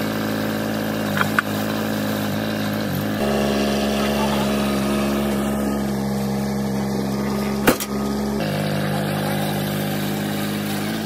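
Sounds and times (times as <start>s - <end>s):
tracked loader engine running: 0.0s - 11.0s.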